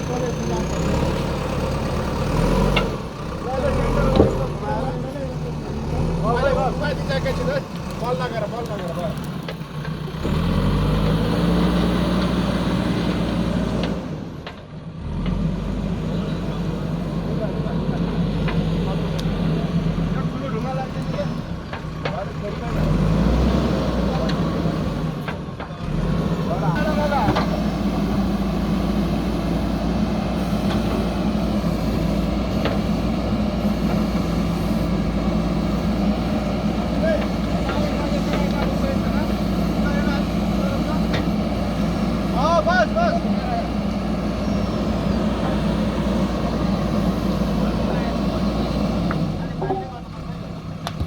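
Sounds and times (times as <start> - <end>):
diesel engine running loud: 0.0 - 51.0.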